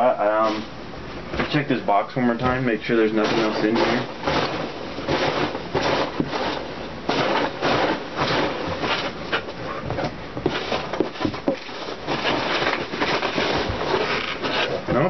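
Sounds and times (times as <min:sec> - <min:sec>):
hands rummaging in cardboard box: 0:02.5 - 0:15.0.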